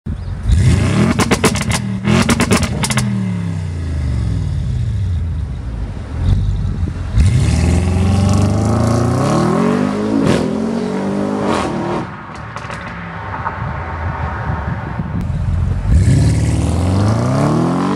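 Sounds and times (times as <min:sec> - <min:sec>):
car engine revving: 0:00.4 - 0:05.1, 0:06.1 - 0:13.5, 0:15.2 - 0:17.9.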